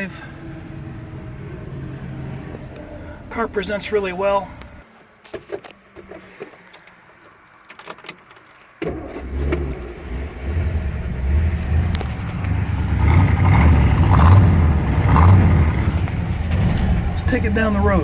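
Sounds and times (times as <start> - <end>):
car engine starting and running: 0.0 - 4.8, 7.2 - 18.0.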